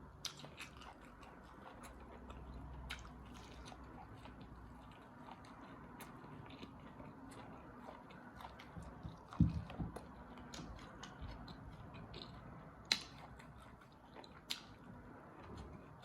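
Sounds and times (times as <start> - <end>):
chewing with mouth clicks: 0.0 - 16.0.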